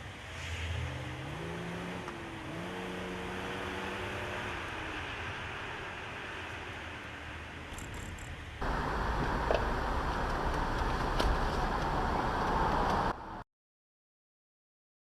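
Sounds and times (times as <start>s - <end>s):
car road and engine noise: 0.0s - 13.4s.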